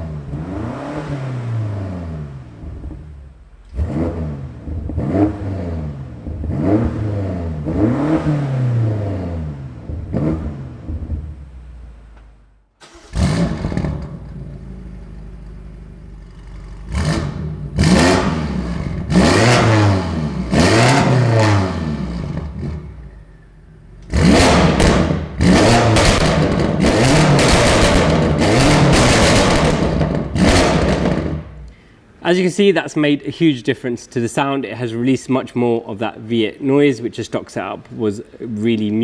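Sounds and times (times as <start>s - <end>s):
car engine revving: 0.0s - 32.2s.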